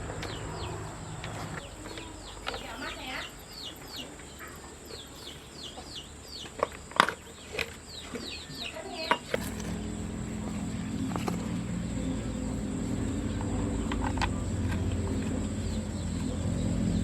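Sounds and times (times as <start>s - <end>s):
chicks chirping: 0.0s - 17.0s
low mechanical hum: 0.0s - 17.0s.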